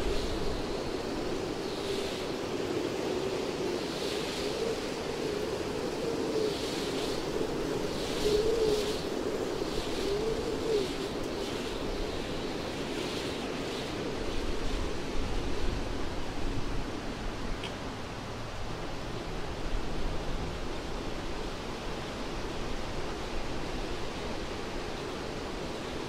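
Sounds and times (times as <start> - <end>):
wind through treetops: 0.0 - 26.0.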